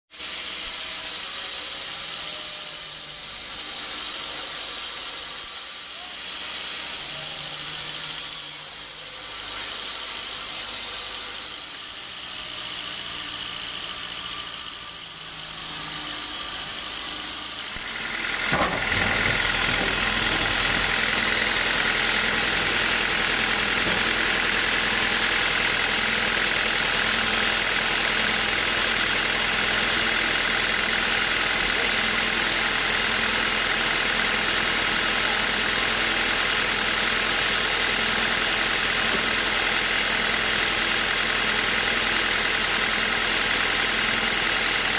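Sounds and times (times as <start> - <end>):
band sawmill sawing log: 0.1 - 44.9.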